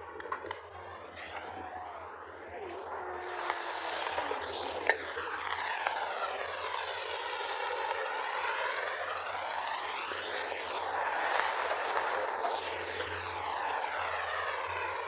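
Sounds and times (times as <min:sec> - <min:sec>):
aircraft flying over: 0:02.8 - 0:15.0.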